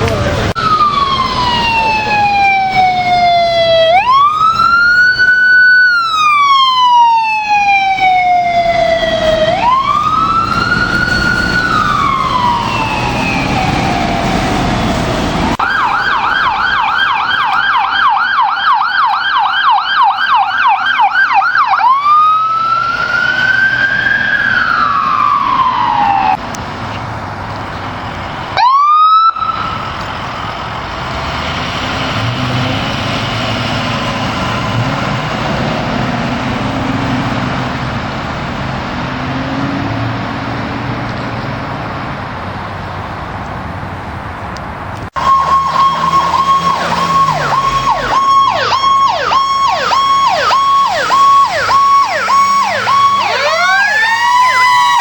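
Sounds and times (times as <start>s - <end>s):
traffic and engine noise: 0.0s - 55.0s
emergency siren yelp and wail: 0.1s - 26.5s, 27.6s - 42.0s, 45.0s - 55.0s.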